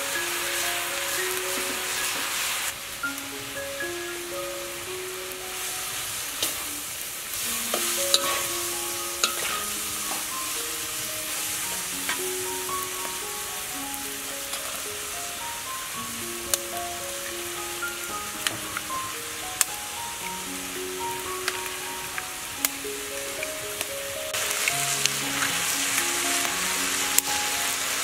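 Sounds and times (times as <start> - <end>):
greens sizzling in a wok: 0.0 - 28.0.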